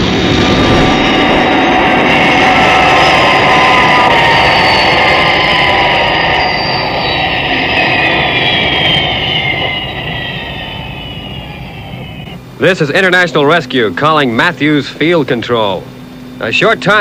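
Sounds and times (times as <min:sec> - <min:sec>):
jet engines landing: 0:00.0 - 0:17.0.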